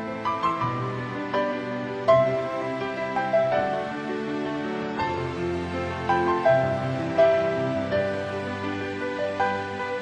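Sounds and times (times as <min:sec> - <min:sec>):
slow melodic instrumental music: 0:00.0 - 0:10.0.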